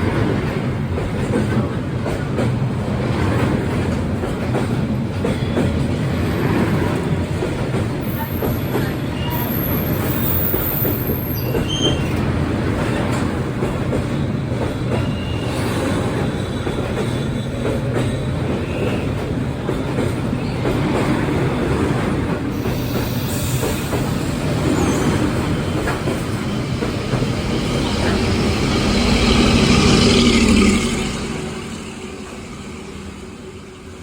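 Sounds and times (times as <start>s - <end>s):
train wheels rattling on rails: 0.0s - 34.0s.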